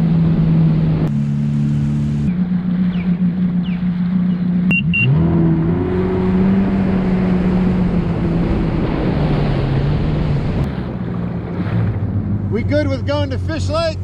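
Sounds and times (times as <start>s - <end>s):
jet ski engine running: 0.0s - 14.0s
water and wind rushing: 0.0s - 14.0s.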